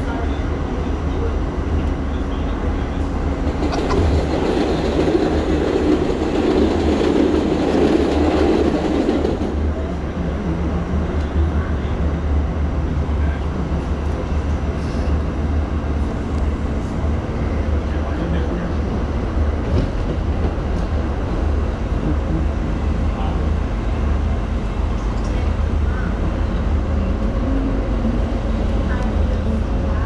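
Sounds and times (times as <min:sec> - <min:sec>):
passing train wheel and rail noise: 0:00.0 - 0:30.0
subway train low rumble: 0:00.0 - 0:30.0.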